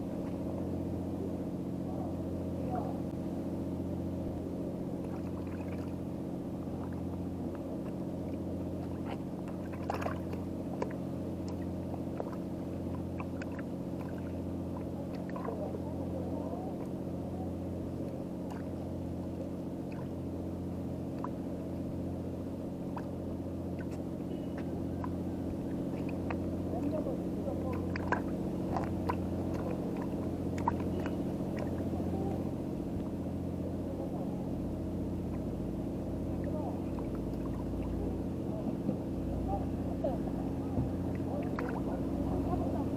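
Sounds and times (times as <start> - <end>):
engine idling with low hum: 0.0 - 42.9.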